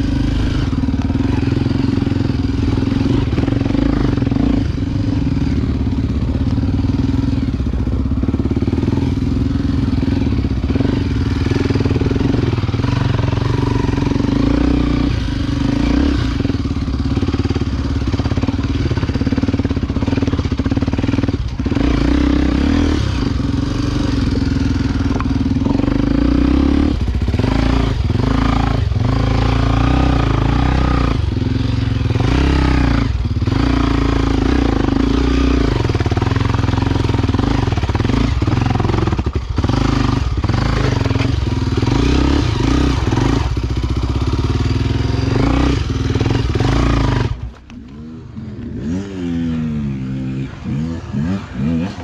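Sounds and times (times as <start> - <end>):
single-cylinder engine running: 0.0 - 49.0.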